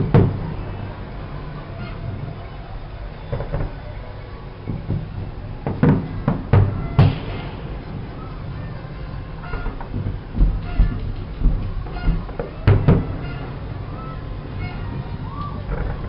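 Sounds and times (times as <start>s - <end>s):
crowd din: 0.0s - 16.0s
fireworks bangs: 0.0s - 16.0s.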